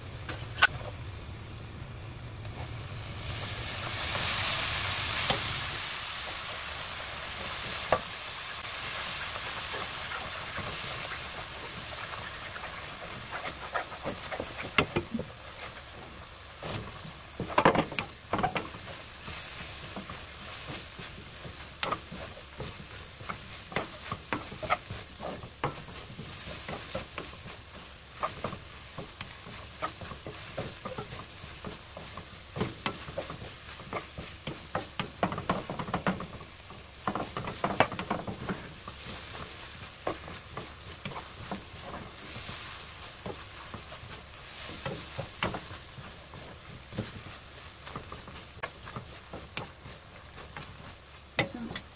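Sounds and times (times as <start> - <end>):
steady sizzle: 0.0 - 51.9
wooden spatula scraping a wok: 2.4 - 51.9.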